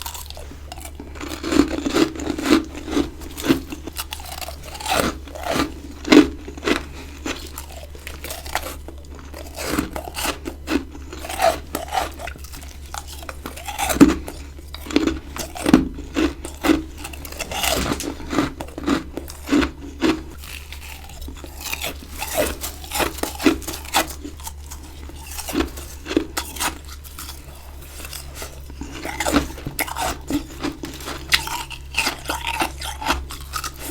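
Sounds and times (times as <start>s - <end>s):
ice being crunched: 0.0s - 33.9s.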